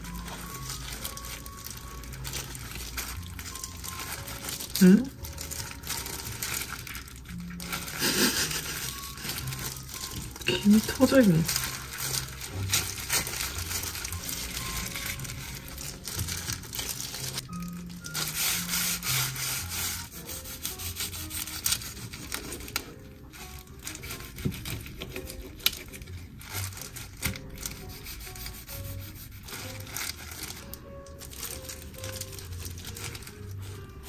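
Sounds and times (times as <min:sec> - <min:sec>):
rubbing and scraping: 0:00.0 - 0:34.0
soft background music: 0:00.0 - 0:34.0.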